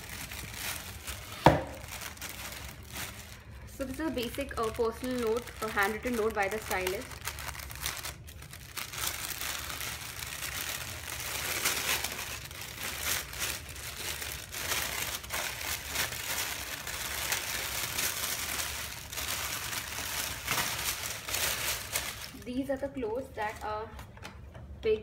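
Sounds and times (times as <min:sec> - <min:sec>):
tissue paper and plastic rustling: 0:00.0 - 0:24.1.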